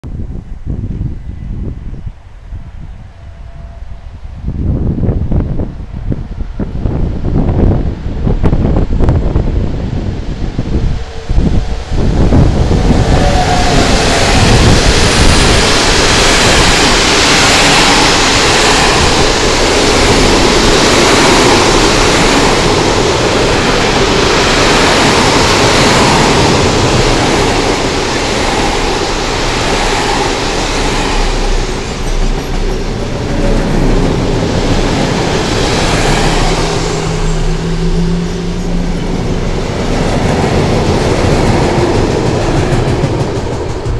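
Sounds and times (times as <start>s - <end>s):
freight train passing: 0.0s - 43.9s
wheels rumbling and rattling on rails: 0.0s - 43.9s.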